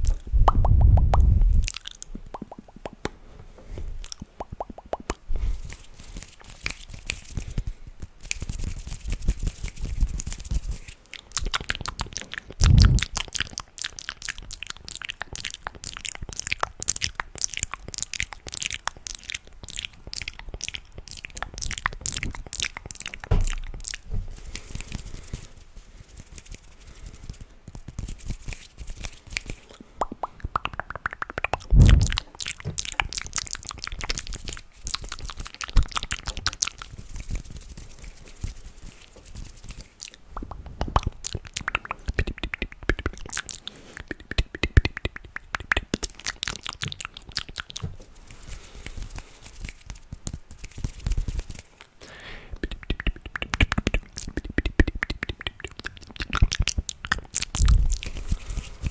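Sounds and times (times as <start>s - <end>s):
mouth clicks and pops: 0.0s - 3.2s, 4.0s - 5.3s, 11.1s - 24.9s, 27.7s - 37.4s, 39.7s - 58.9s.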